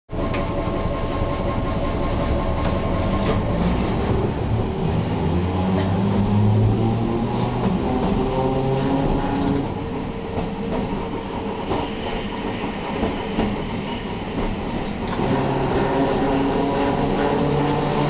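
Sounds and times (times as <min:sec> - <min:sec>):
tram motor whining hum: 0:00.1 - 0:18.0
wheels clicking on rails: 0:00.2 - 0:18.0.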